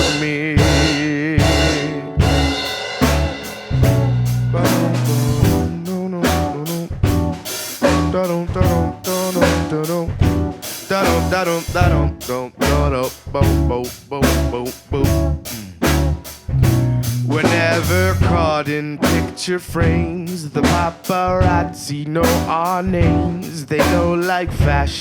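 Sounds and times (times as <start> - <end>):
wavering melodic lead line: 0.0 - 24.2
bass line: 0.0 - 25.0
drum kit beat: 0.0 - 25.0.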